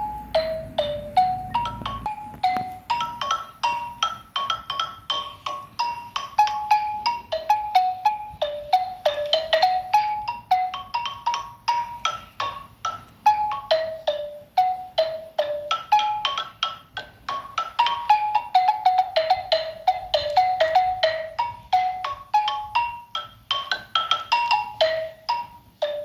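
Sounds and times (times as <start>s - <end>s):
xylophone melody: 0.0s - 26.0s.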